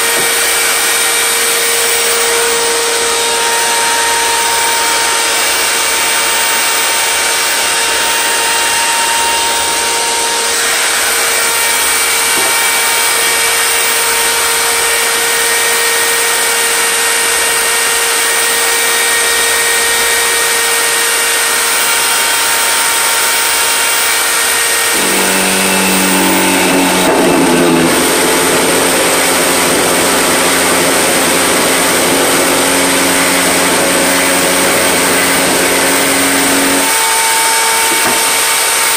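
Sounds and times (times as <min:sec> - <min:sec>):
router cutting wooden board: 0:00.0 - 0:38.9
router high whine: 0:00.0 - 0:38.9.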